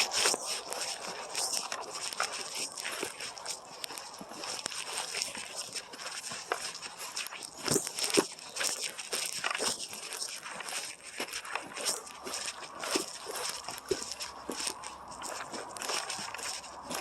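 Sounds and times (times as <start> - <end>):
footsteps crunching through undergrowth: 0.0 - 17.0.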